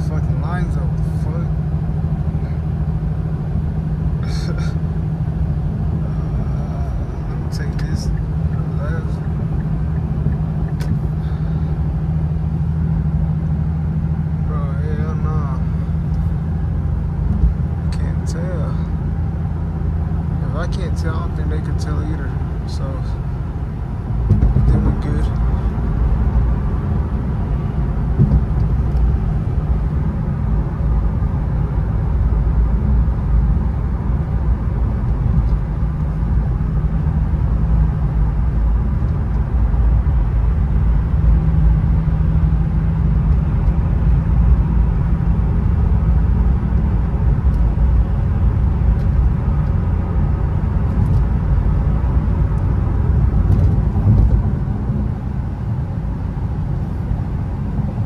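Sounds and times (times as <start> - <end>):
car engine drone: 0.0 - 58.0
tyres rumbling on snowy road: 0.0 - 58.0.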